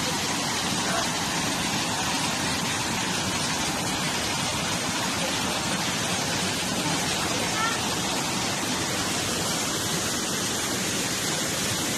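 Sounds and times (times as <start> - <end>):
waterfall roaring: 0.0 - 11.9.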